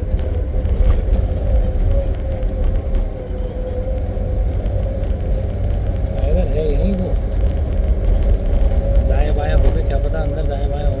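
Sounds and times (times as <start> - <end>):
small rattles and knocks: 0.0 - 11.0
steady whine: 0.0 - 11.0
vehicle engine rumbling: 0.0 - 11.0.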